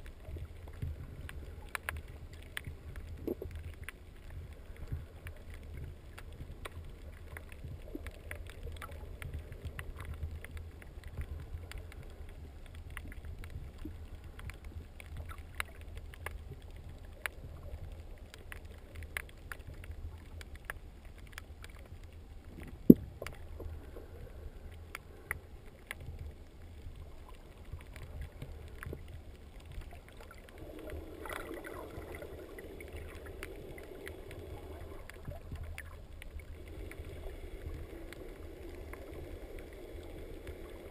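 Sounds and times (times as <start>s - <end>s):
muffled underwater rumble: 0.0s - 40.9s
underwater clicks and crackles: 0.0s - 40.9s.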